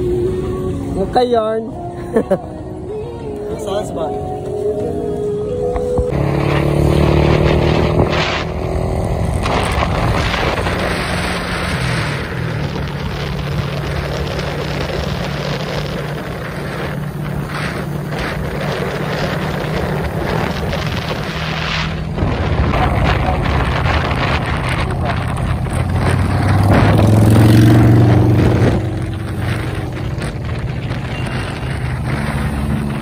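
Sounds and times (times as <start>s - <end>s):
road and wind noise: 0.0s - 33.0s
vehicle engine running: 4.4s - 33.0s.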